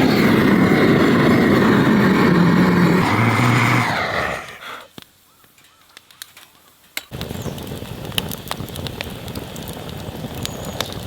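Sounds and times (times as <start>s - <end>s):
fire crackling with pops: 0.0s - 11.0s.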